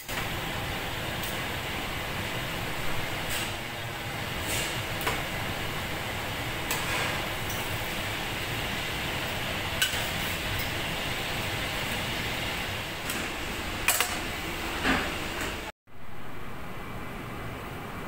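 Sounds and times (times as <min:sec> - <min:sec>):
kitchen extraction hood rushing: 0:00.0 - 0:15.7.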